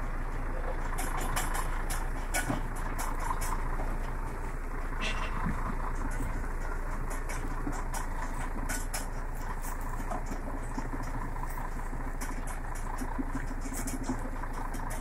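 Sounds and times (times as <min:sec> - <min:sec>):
baler engine hum: 0:00.0 - 0:15.0.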